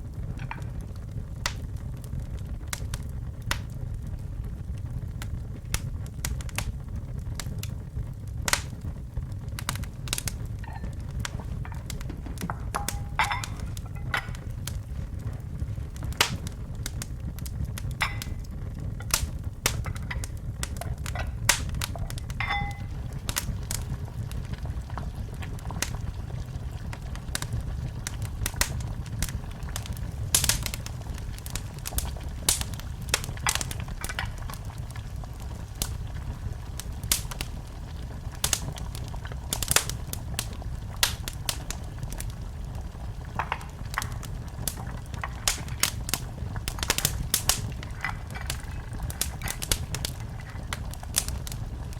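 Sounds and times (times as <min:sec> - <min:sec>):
fire low rumble: 0:00.0 - 0:51.9
wood fire crackling and popping: 0:00.0 - 0:51.9.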